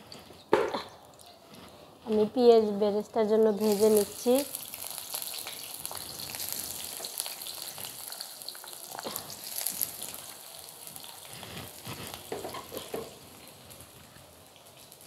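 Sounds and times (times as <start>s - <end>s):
onions sizzling in hot oil: 2.2s - 15.0s.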